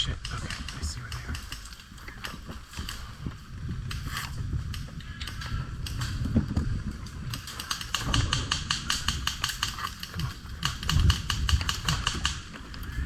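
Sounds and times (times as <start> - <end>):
wind rumble on microphone: 0.0 - 13.0
airsoft rifle rapid clicks: 0.1 - 13.0.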